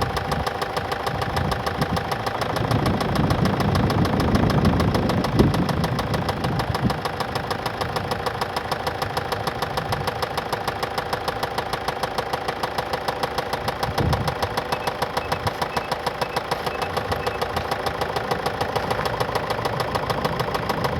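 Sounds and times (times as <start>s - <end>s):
diesel engine running: 0.0s - 20.9s
rhythmic engine knock: 0.0s - 20.9s.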